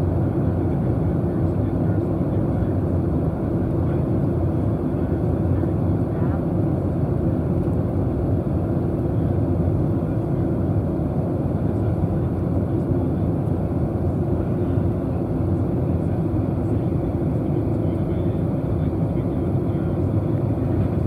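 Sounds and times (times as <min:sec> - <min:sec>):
airliner cabin engine noise: 0:00.0 - 0:21.0.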